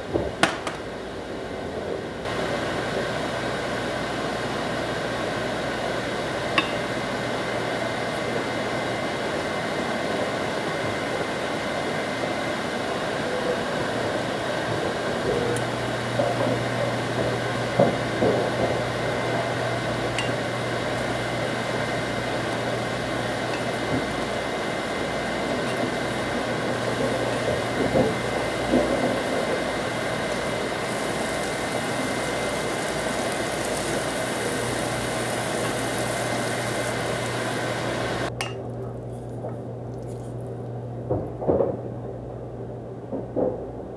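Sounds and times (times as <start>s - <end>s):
fan hum and hiss: 0.0s - 43.9s.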